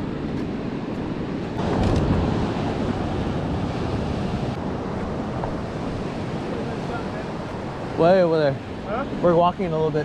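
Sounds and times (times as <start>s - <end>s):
wind buffeting microphone: 0.0s - 10.0s
surf washing against rocks: 1.5s - 10.0s.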